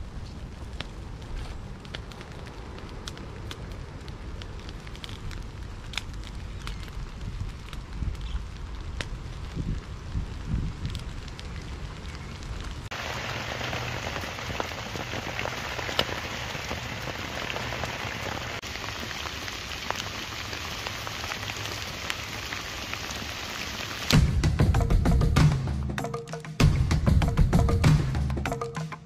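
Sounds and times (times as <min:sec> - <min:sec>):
steady rain falling: 0:00.0 - 0:25.3
campfire crackle: 0:00.0 - 0:25.4.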